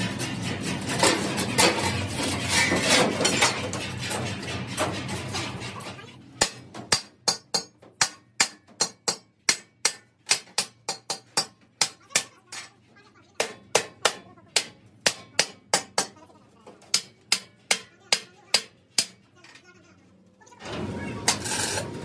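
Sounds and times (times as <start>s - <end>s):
hammer clanging on steel: 0.0s - 12.8s, 13.4s - 19.3s.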